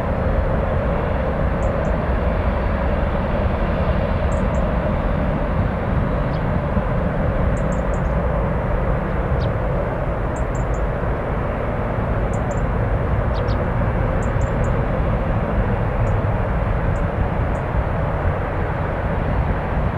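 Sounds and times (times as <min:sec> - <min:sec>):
distant jet engines roaring: 0:00.0 - 0:19.9.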